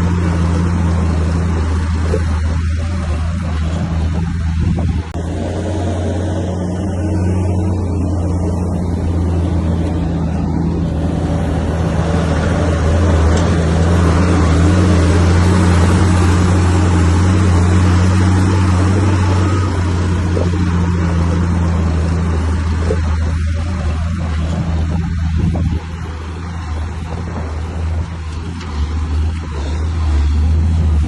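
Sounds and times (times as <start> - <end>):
broad mechanical noise: 0.0 - 31.0
bulldozer diesel engine humming: 0.0 - 31.0.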